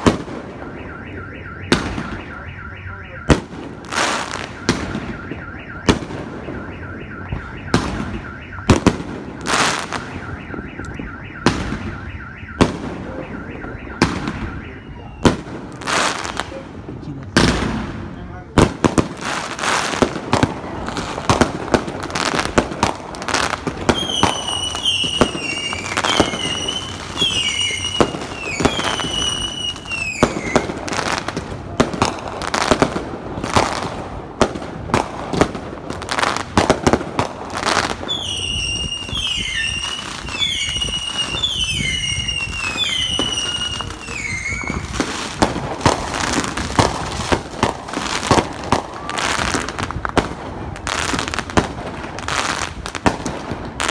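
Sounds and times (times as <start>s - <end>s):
firecrackers crackling and banging: 0.0s - 53.9s.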